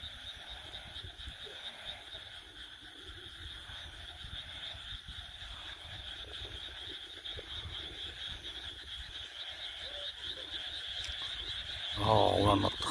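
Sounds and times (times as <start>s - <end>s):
frogs croaking: 0.0s - 12.9s.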